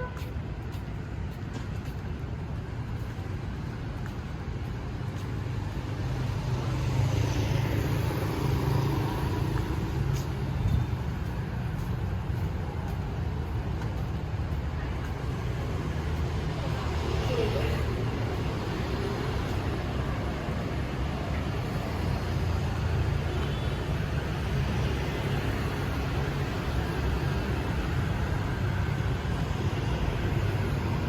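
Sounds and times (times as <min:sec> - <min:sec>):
street traffic passing: 0:00.0 - 0:31.0.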